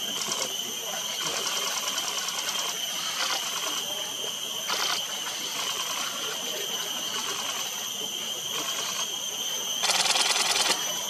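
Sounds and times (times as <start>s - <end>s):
insects chirring: 0.0s - 11.0s
rapid insect ticking: 0.0s - 11.0s.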